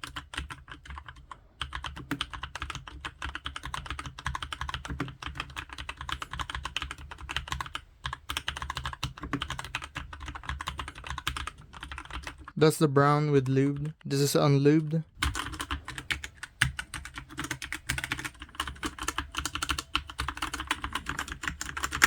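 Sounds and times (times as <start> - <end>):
typing on mechanical keyboard: 0.0 - 12.6, 15.2 - 22.0.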